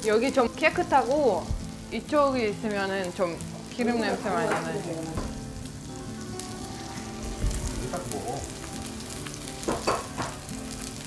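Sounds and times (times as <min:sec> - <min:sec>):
oil sizzling in frying pan: 0:00.0 - 0:11.0.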